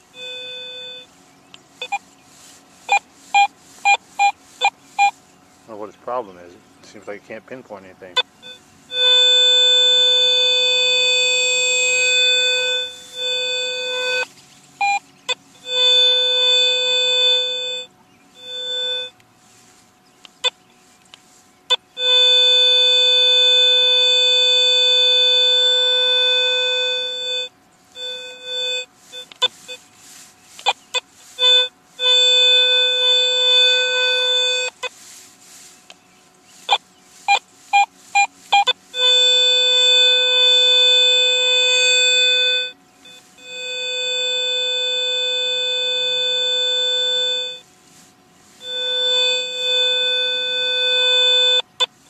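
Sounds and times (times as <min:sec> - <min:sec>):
metal detector buzzy tone: 0:00.0 - 0:01.1, 0:01.8 - 0:06.5, 0:07.1 - 0:52.0.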